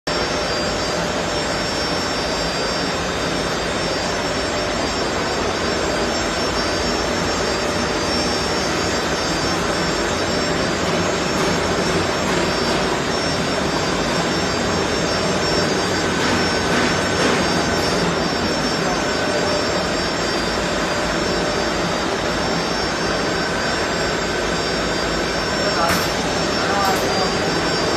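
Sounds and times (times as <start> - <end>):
machine whirring: 0.1 - 27.9.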